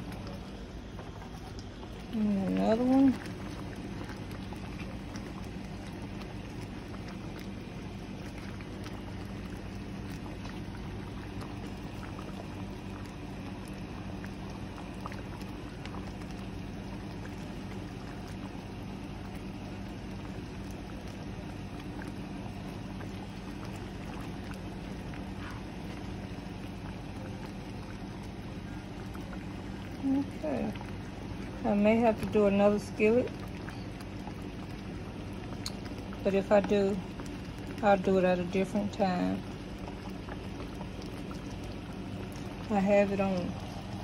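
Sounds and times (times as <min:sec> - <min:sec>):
gravy simmering in a skillet: 0:00.0 - 0:44.0
low hum and hiss: 0:00.0 - 0:44.0.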